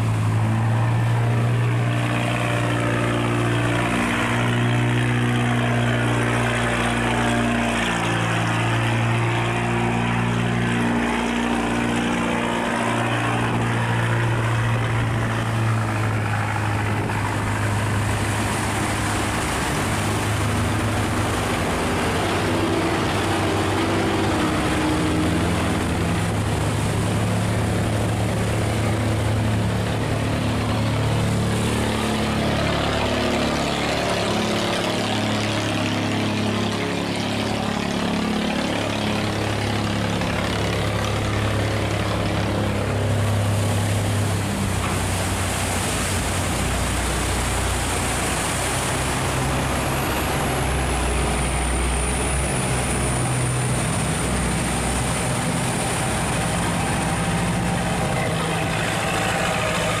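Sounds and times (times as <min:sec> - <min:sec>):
boat engines running: 0:00.0 - 1:00.0
rushing churning water: 0:00.0 - 1:00.0.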